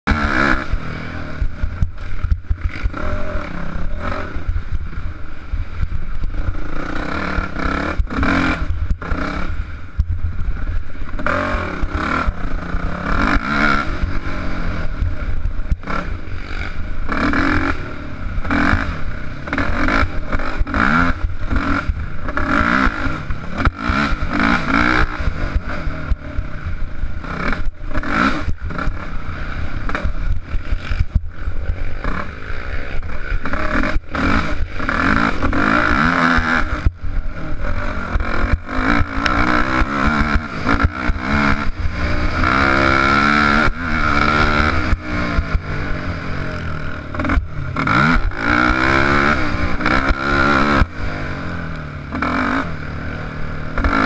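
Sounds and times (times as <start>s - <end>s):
dirt bike engine revving: 0.0s - 54.0s
wind rumble: 0.1s - 54.0s.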